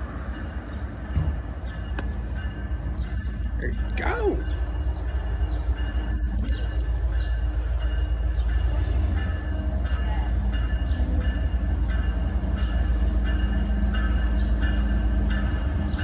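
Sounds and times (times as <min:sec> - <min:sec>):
diesel locomotive engine rumble: 0:00.0 - 0:16.0
locomotive bell ringing: 0:00.0 - 0:16.0.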